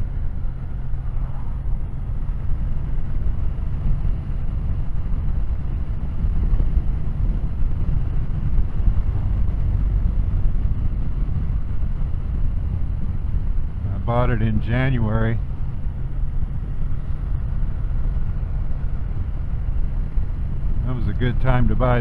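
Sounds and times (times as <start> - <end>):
motorcycle engine rumble: 0.0 - 22.0
road noise: 0.0 - 22.0
wind noise: 0.0 - 22.0.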